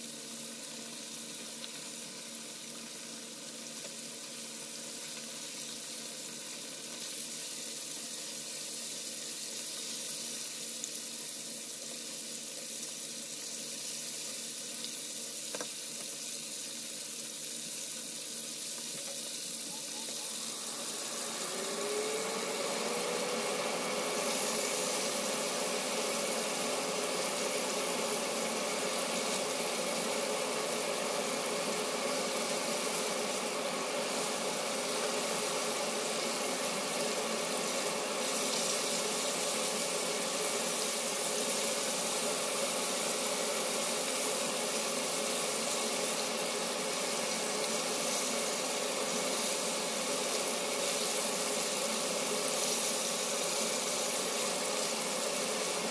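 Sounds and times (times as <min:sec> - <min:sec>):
mechanical hum: 0:00.0 - 0:55.9
oil sizzling in deep fryer: 0:00.0 - 0:55.9.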